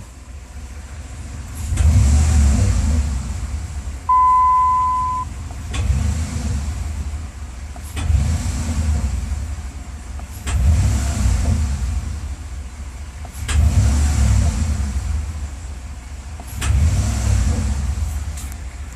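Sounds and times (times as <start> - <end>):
car engine revving: 0.6 - 18.5.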